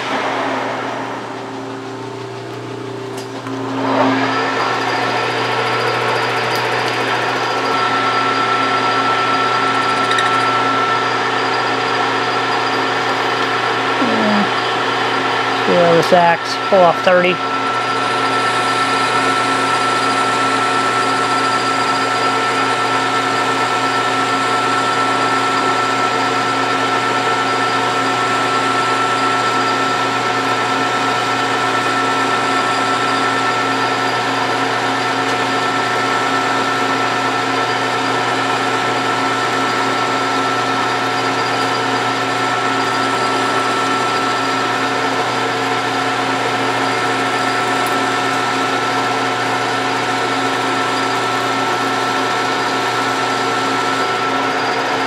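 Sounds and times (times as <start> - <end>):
metal lathe whine: 0.0 - 55.0.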